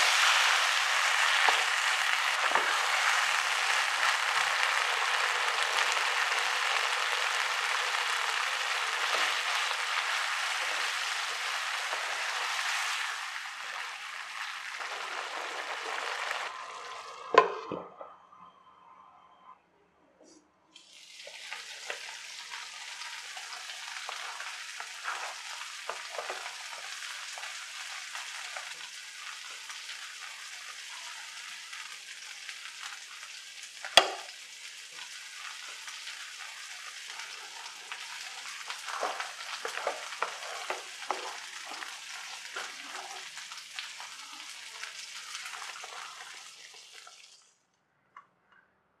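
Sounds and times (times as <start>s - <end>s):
curry sizzling and bubbling in a pan: 0.0s - 17.6s, 20.8s - 47.5s.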